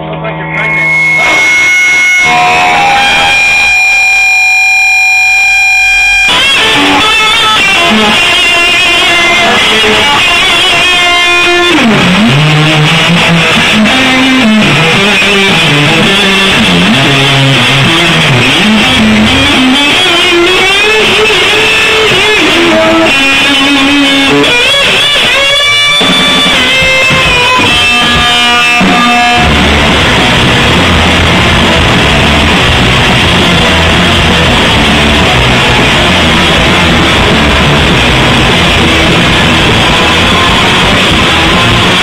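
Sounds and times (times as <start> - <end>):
held electric guitar tones: 0.0 - 42.0
low guitar riff: 0.0 - 42.0
live rock band playing: 0.4 - 42.0.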